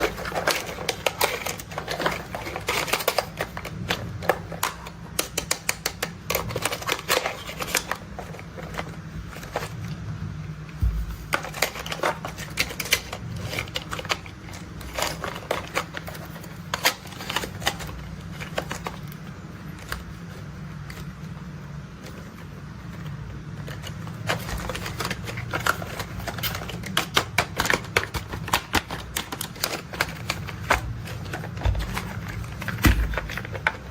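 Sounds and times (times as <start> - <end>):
plastic toy parts clattering: 0.0 - 9.8, 10.8 - 21.1, 22.0 - 33.9
steady low hum: 6.1 - 27.0, 27.6 - 33.9.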